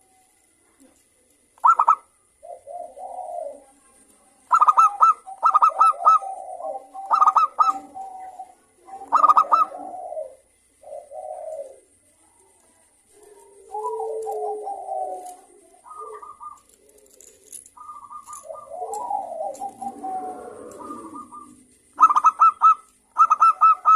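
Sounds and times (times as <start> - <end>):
dove singing: 1.6 - 3.8, 4.4 - 23.9.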